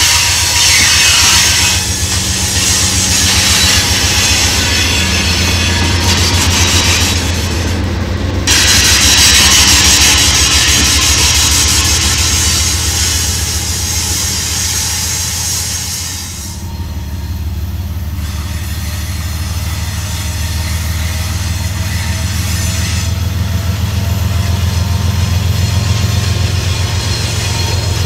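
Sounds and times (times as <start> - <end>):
diesel locomotive rumble: 0.0 - 28.0
rail hiss: 0.0 - 28.0.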